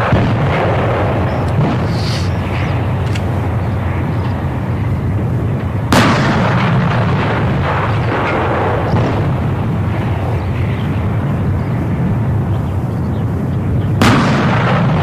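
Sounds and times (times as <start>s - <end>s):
howitzer firing: 0.0s - 15.0s
steady low rumble: 0.0s - 15.0s.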